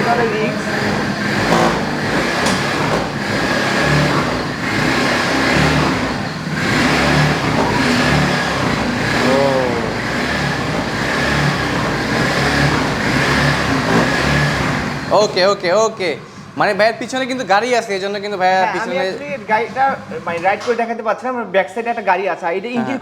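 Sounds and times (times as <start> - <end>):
petrol engine revving: 0.0 - 20.4.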